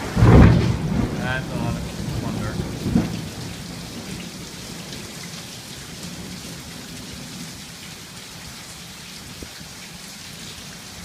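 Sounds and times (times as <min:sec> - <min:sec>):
heavy rain pouring on street: 0:00.0 - 0:11.0.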